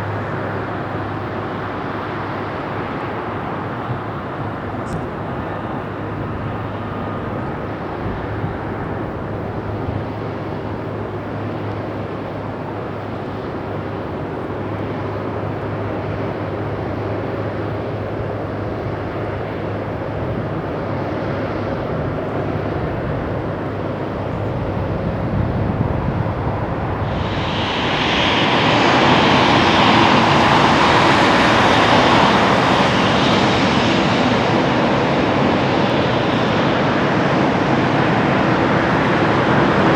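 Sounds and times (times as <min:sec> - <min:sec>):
hissy jet engine noise: 0:00.0 - 0:39.9
jet engines humming: 0:00.0 - 0:39.9.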